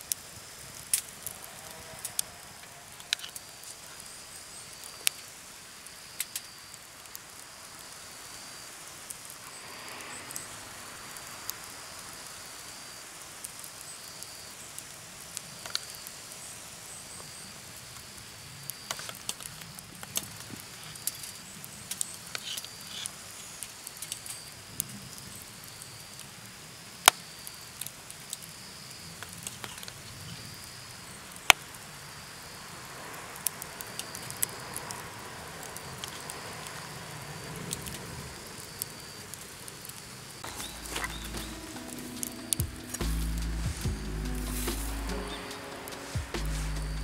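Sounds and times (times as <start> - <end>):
insect trill: 0.0 - 47.0
wood fire crackling and popping: 0.0 - 47.0.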